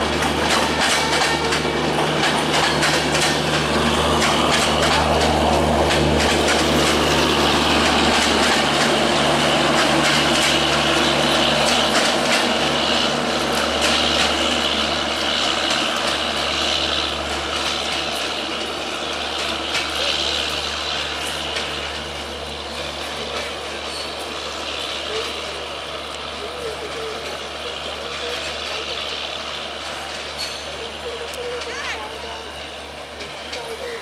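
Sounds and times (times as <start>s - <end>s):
train rumbling past: 0.0s - 34.0s
wheels clacking over rail joints: 0.0s - 34.0s.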